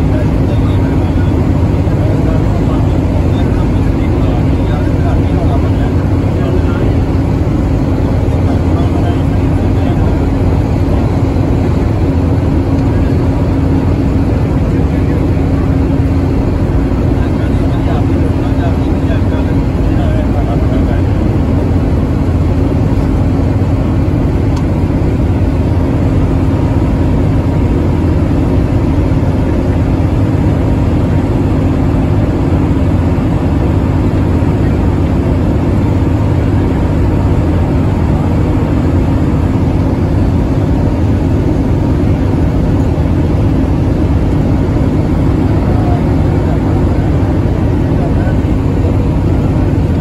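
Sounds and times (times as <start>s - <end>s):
bus engine drone: 0.0s - 50.0s
road and tyre noise: 0.0s - 50.0s.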